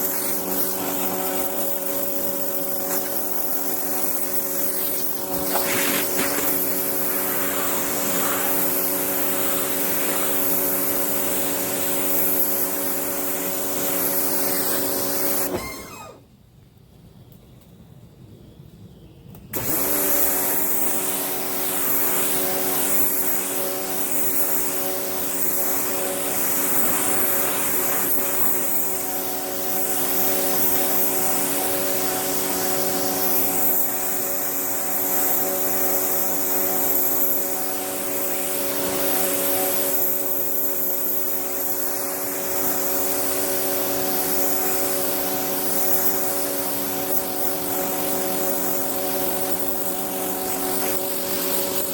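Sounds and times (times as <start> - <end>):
hiss of spray: 0.0 - 15.8, 19.6 - 51.9
pressure washer motor hum: 0.0 - 16.2, 19.6 - 51.9.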